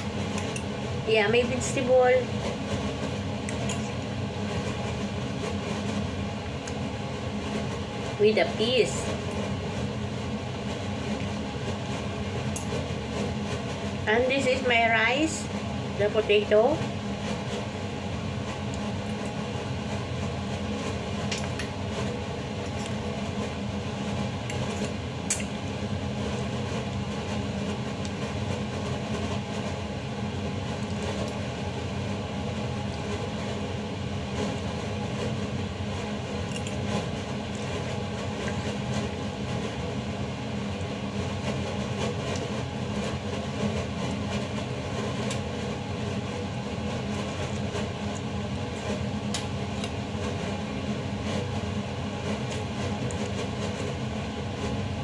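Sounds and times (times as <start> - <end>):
fan or air conditioner humming: 0.0 - 55.0.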